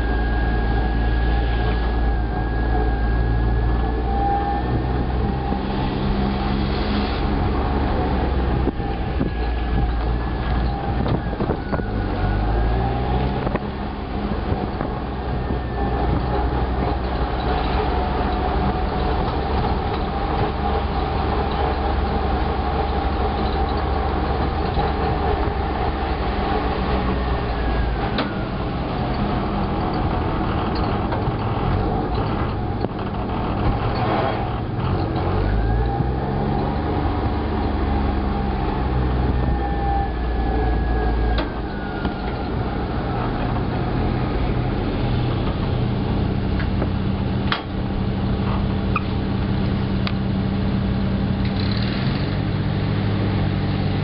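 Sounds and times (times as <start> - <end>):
small engine droning: 0.0 - 54.0.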